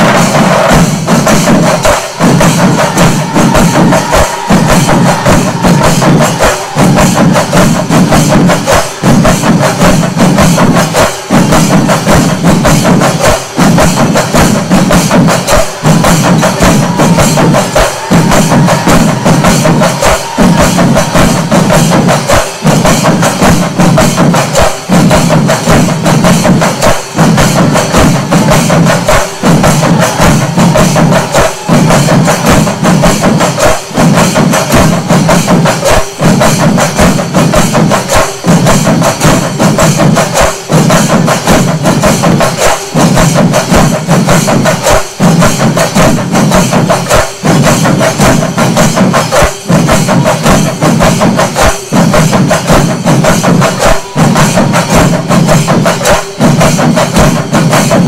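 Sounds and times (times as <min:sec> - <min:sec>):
fast dense percussion music: 0:00.0 - 0:58.0.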